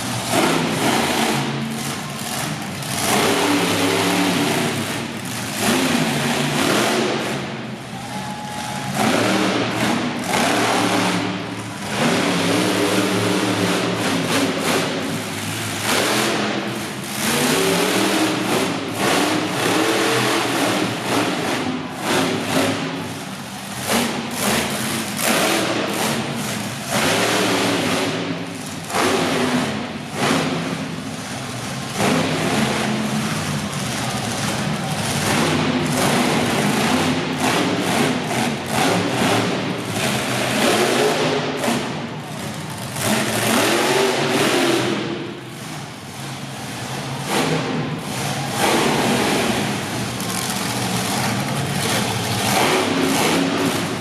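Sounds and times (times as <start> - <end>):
monster truck engine revving: 0.0 - 54.0.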